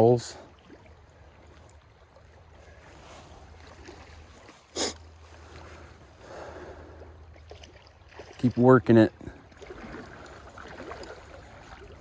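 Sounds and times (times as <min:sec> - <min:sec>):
stream water running: 0:00.0 - 0:12.0.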